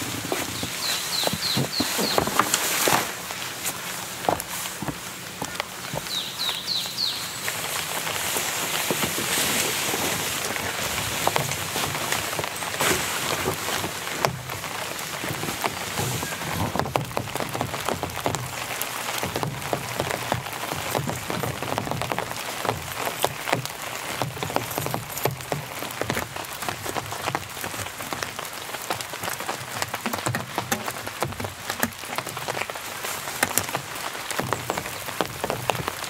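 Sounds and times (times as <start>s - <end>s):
raindrops striking surfaces: 0.0s - 36.0s
steady rain: 0.0s - 36.0s.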